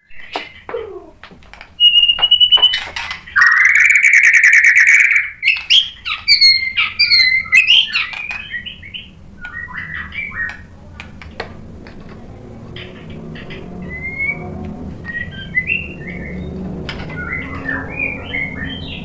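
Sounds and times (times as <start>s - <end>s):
songbird singing whistles and rattles: 0.0s - 10.7s, 12.8s - 19.0s.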